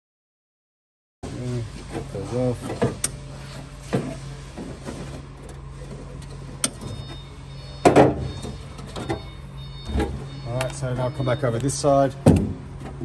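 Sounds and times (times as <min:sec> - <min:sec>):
steady low hum: 0:01.2 - 0:13.0.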